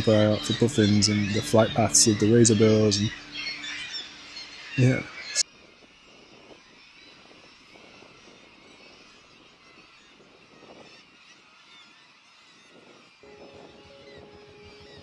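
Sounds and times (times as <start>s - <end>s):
distant seabird colony calling: 0.0s - 15.0s.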